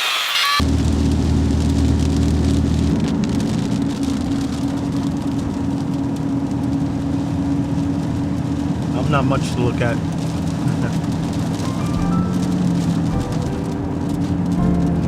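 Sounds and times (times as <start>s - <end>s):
vehicle engine running: 0.6s - 15.0s.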